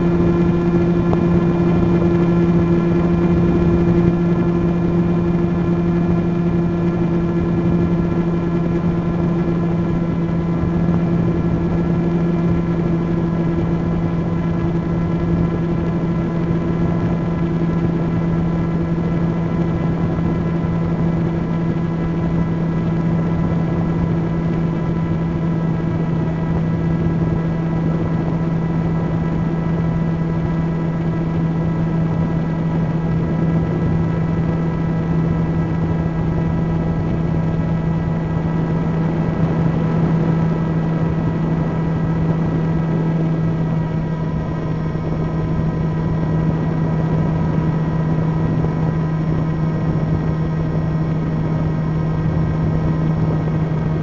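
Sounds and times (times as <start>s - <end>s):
drone motors and propellers humming: 0.0s - 54.0s.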